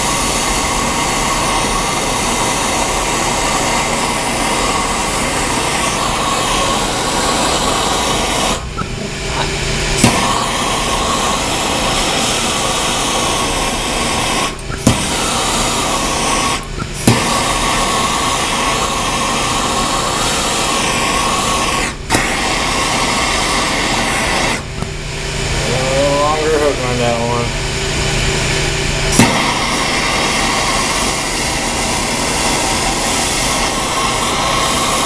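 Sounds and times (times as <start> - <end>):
gas torch hissing: 0.0 - 35.0
torch ignition click: 0.1 - 25.0, 29.1 - 35.0.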